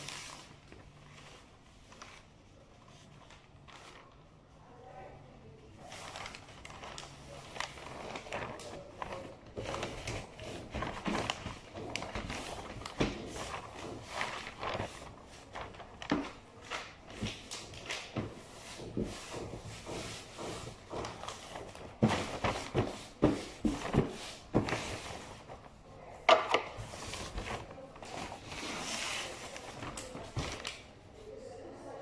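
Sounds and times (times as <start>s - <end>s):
wrapping paper crinkling: 0.0s - 4.4s, 5.8s - 26.1s, 26.7s - 31.0s.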